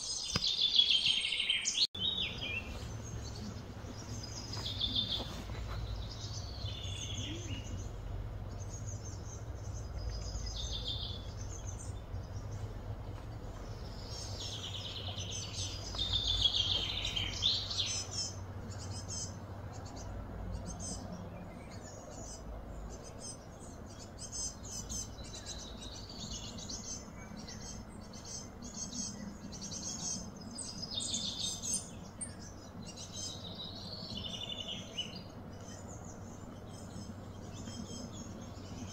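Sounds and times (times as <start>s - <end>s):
wild birds chirping: 0.0s - 38.9s
low background rumble: 1.9s - 38.9s.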